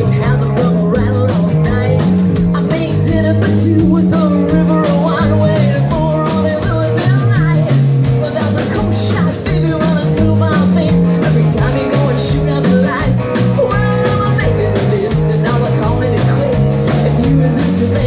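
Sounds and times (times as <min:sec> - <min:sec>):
rock and roll band playing: 0:00.0 - 0:18.0
woman singing: 0:00.0 - 0:18.0.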